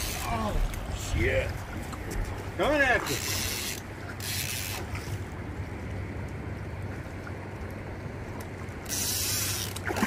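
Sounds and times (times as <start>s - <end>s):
boat engine idling: 0.0s - 10.0s
water and wind noise: 0.0s - 10.0s.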